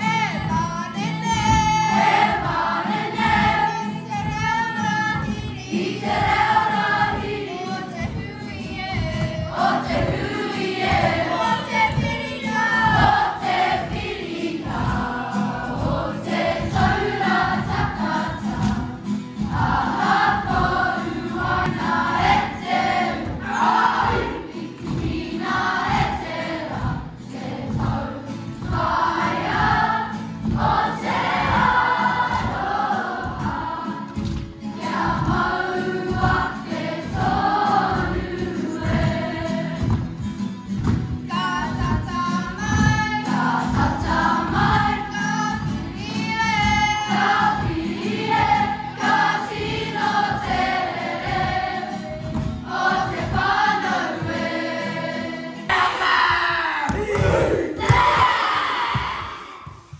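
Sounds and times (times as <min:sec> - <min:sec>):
girls singing in unison: 0:00.0 - 0:56.6, 0:57.3 - 0:59.9.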